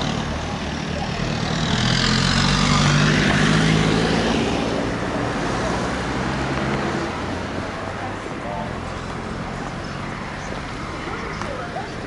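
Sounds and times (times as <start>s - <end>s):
vehicle passing with tyre noise: 0.0s - 12.0s.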